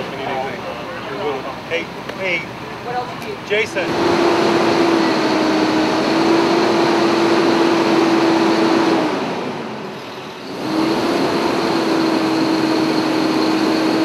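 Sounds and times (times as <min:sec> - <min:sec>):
mechanical drone humming: 0:00.0 - 0:14.0.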